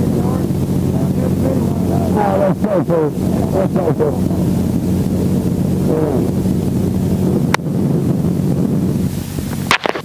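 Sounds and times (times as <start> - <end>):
helicopter engine and rotor: 0.0 - 10.0.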